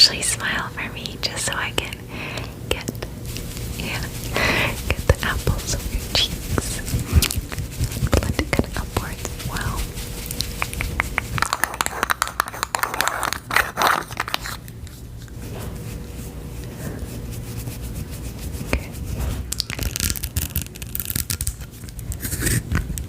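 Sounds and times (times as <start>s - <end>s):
scratching and crackling: 2.8s - 15.8s, 17.2s - 23.0s.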